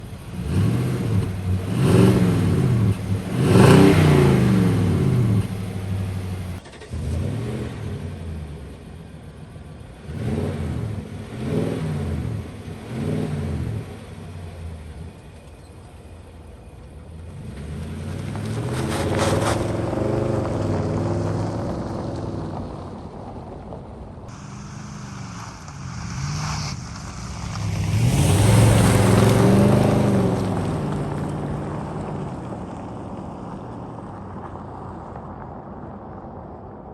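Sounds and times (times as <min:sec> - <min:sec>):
pickup engine revving: 0:00.0 - 0:15.5, 0:17.0 - 0:23.1, 0:24.3 - 0:32.8.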